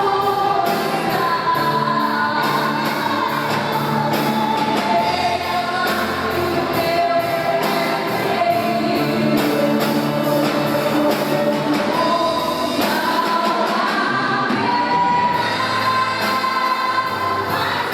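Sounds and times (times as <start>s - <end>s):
band with steady beat: 0.0s - 17.9s
group of voices singing: 0.0s - 17.9s.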